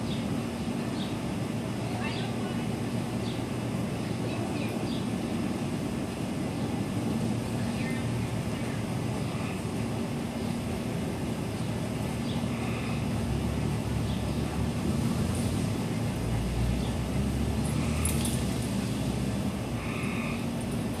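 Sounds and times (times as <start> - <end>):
steady motor hum: 0.0 - 21.0.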